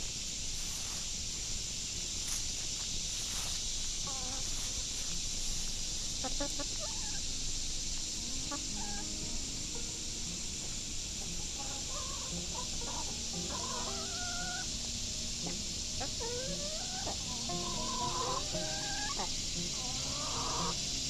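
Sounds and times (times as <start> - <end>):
high-pitched hiss: 0.0 - 21.0
hens clucking: 3.1 - 21.0.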